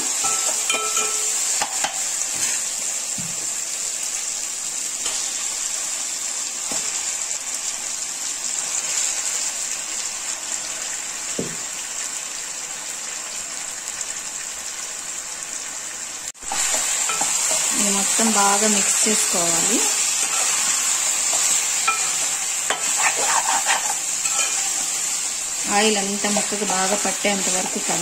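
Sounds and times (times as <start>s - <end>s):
chicken sizzling in hot oil: 0.0s - 28.0s.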